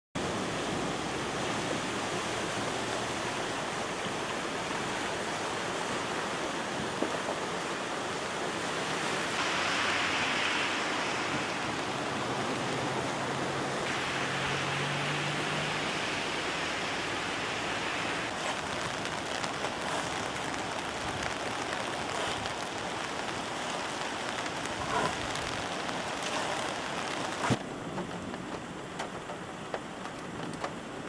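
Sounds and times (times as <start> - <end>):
flood water rushing: 0.2 - 31.0.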